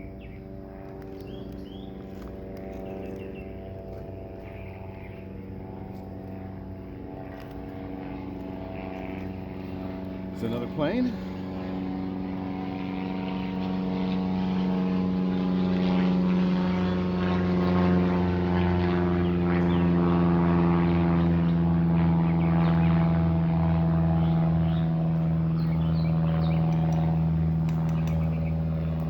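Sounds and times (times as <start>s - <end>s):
propeller airplane engine drone: 0.0s - 29.0s.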